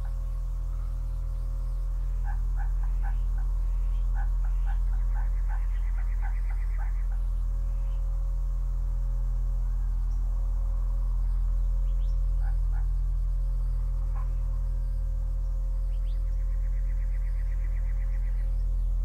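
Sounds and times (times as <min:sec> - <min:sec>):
steady low drone: 0:00.0 - 0:19.0.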